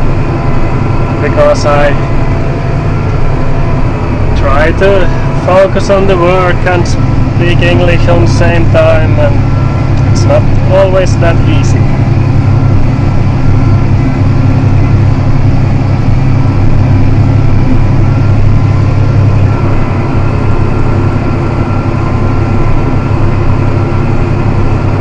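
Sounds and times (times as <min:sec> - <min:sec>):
tractor engine droning under load: 0:00.0 - 0:25.0.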